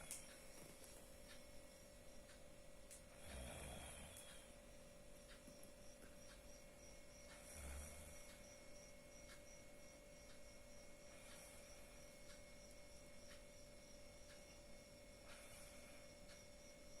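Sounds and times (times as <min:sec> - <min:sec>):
faint steady hum: 0:00.0 - 0:17.0
faint ticking: 0:00.0 - 0:17.0.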